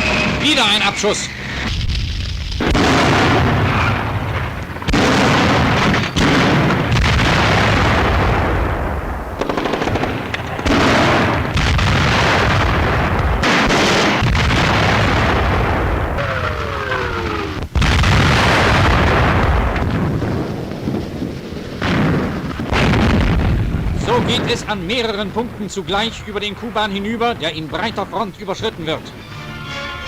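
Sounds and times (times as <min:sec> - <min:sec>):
explosions: 0:00.0 - 0:29.0
heavy gunfire: 0:01.7 - 0:28.9.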